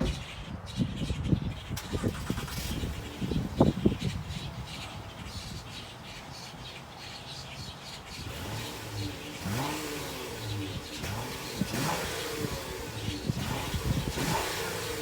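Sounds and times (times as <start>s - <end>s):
car engine idling and revving: 1.6s - 15.0s.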